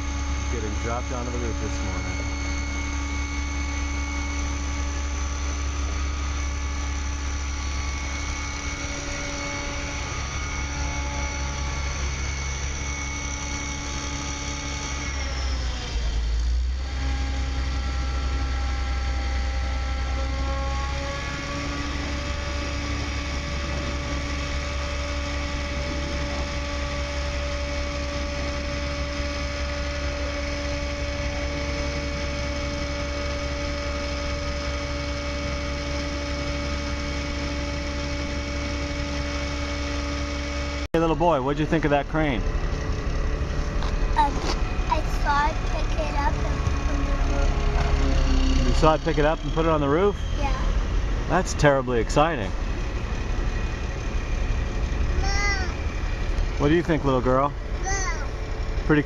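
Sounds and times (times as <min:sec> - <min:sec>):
crane engine rumbling: 0:00.0 - 0:59.0.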